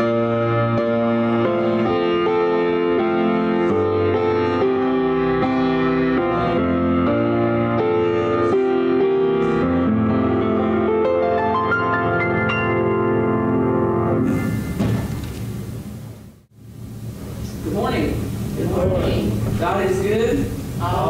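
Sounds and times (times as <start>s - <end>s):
piano playing slow chords: 0.0s - 17.4s
rising piano run: 0.0s - 20.8s.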